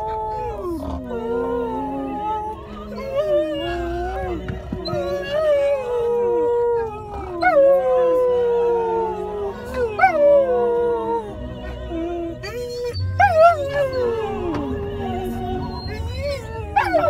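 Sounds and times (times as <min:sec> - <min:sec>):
dogs howling: 0:00.0 - 0:17.0
recorded song: 0:00.0 - 0:17.0.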